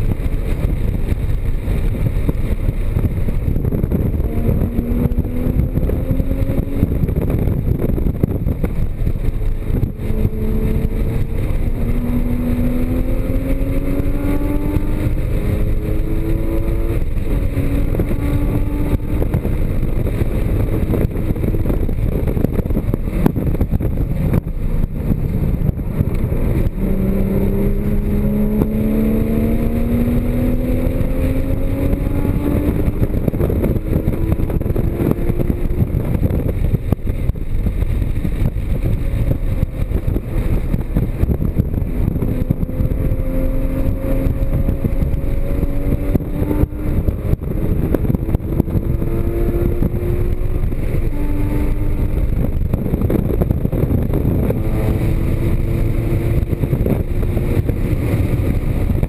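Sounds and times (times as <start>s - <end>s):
car engine pulling hard: 0.0s - 59.0s
wind and road noise: 0.0s - 59.0s.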